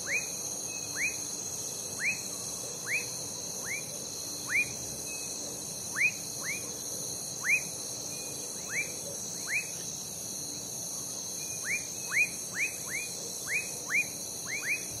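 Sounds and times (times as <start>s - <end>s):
frogs whistling: 0.0s - 6.8s, 7.4s - 9.8s, 11.4s - 15.0s
crickets trilling: 0.0s - 15.0s.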